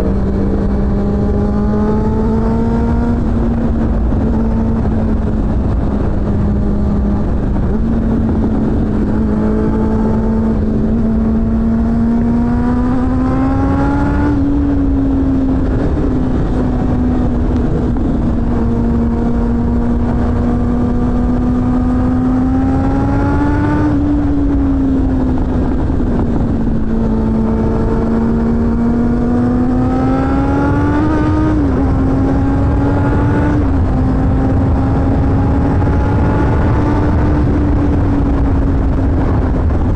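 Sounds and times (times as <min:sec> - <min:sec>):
low rush: 0:00.0 - 0:39.9
motorcycle engine revving: 0:00.0 - 0:39.9.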